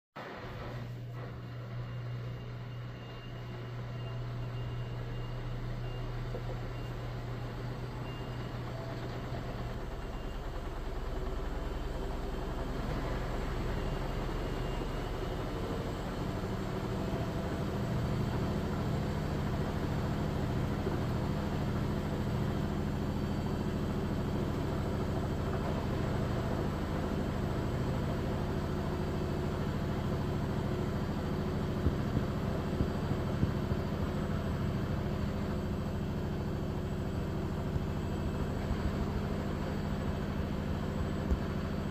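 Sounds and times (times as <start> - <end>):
washing machine drum spinning: 0.8 - 41.9.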